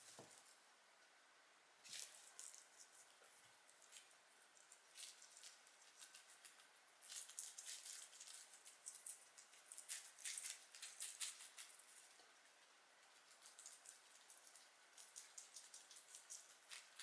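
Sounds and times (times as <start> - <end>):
guinea pigs chewing vegetables: 1.8 - 17.0.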